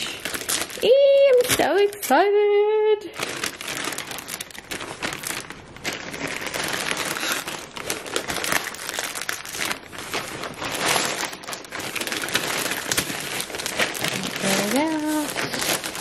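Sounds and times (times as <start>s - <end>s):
plastic bag crinkling: 0.0s - 2.4s, 3.0s - 16.0s.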